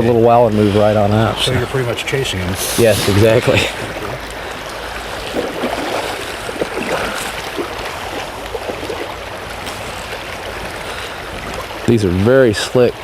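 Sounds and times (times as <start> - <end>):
water rushing over gravel: 0.5 - 13.0.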